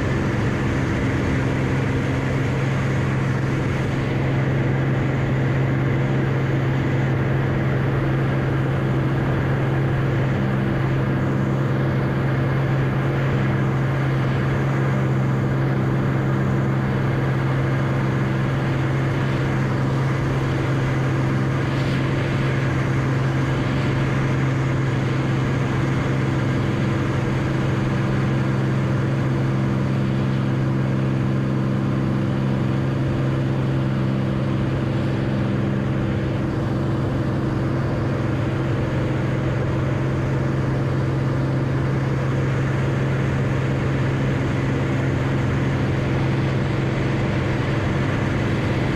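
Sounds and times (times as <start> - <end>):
propeller plane engine drone: 0.0 - 48.9.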